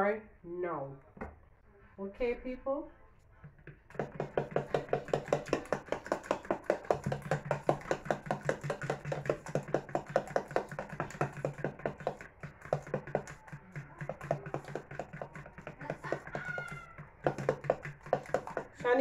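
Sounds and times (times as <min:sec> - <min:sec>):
fork beating eggs in plastic tub: 0:03.4 - 0:19.0.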